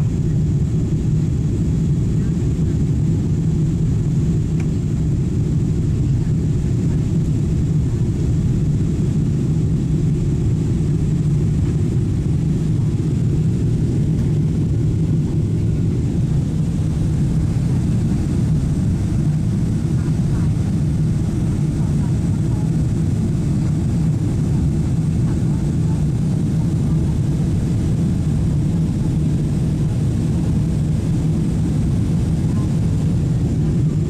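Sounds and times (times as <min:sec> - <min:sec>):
airliner engines rumbling in cabin: 0:00.0 - 0:34.0.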